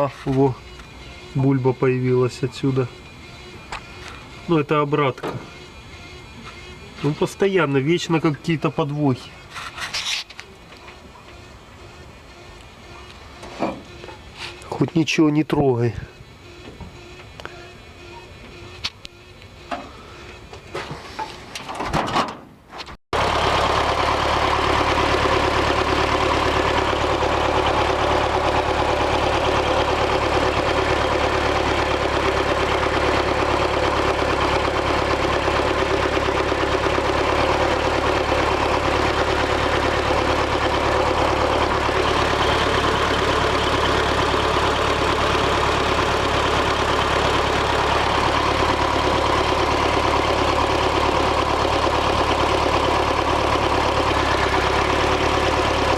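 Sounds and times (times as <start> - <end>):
diesel engine idling: 0.0 - 21.0, 23.2 - 55.9.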